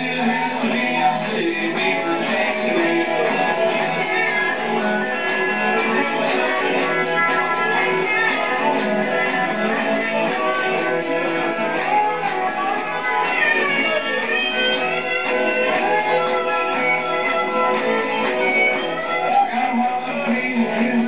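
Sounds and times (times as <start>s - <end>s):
country band playing: 0.0s - 21.0s
strummed guitar: 0.0s - 21.0s.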